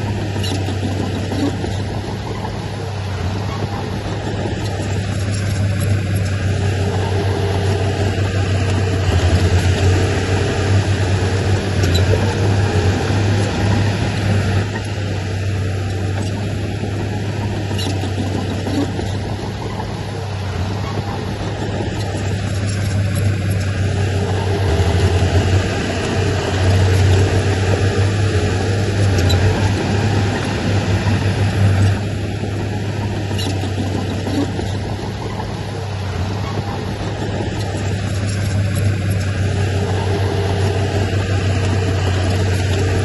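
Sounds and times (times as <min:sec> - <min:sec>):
heavy diesel engine under load: 0:00.0 - 0:43.0.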